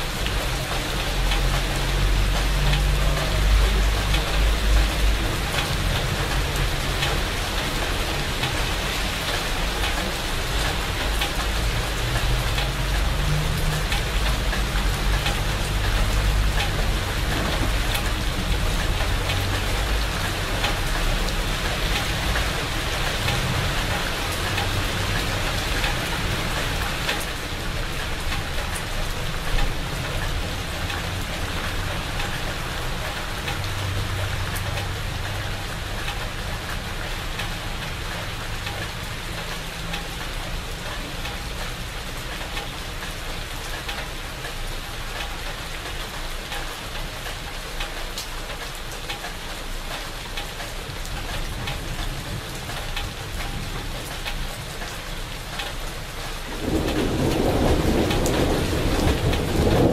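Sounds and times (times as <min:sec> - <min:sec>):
rain falling on shrubs: 0:00.0 - 0:59.9.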